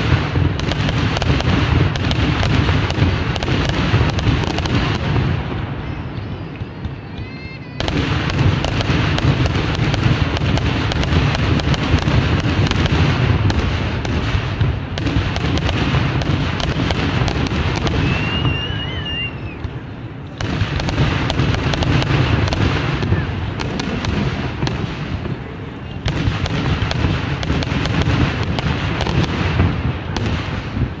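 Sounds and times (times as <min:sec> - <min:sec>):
fireworks crackling and popping: 0:00.0 - 0:31.0
low fireworks booms: 0:00.0 - 0:31.0.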